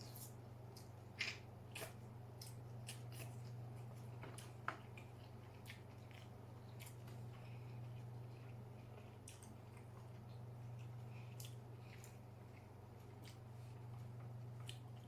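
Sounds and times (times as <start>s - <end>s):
steady low hum: 0.0s - 15.0s
wet chewing with mouth clicks: 0.0s - 15.0s.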